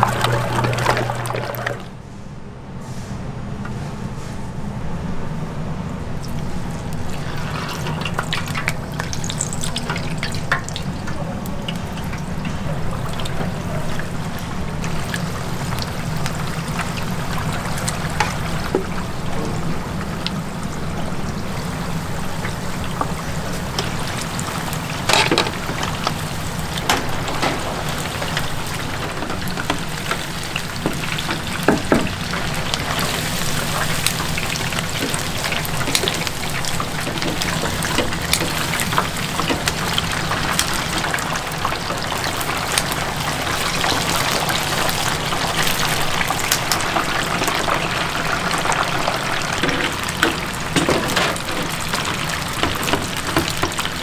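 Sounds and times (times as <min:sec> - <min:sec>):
chicken deep-frying in oil: 0:00.0 - 0:01.9, 0:06.2 - 0:54.0.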